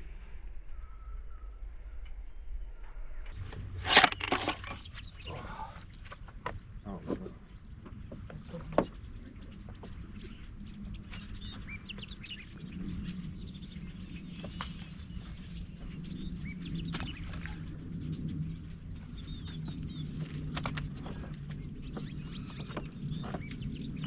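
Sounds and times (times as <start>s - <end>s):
birds chirping: 3.4s - 24.0s
steady low hum: 3.4s - 24.0s.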